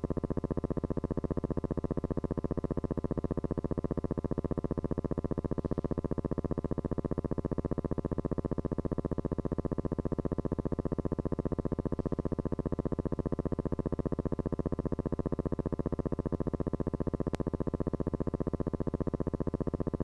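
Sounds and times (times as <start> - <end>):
steady pulsing buzz: 0.0 - 20.0.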